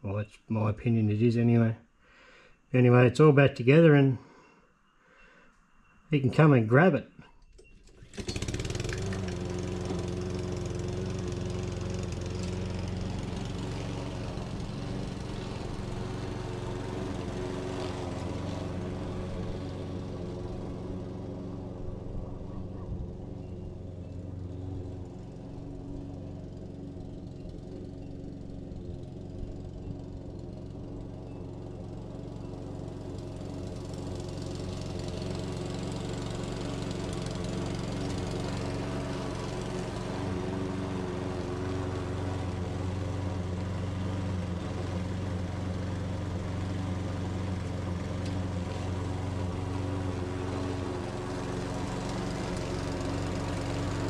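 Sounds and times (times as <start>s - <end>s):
lawn mower engine running: 7.5s - 54.0s.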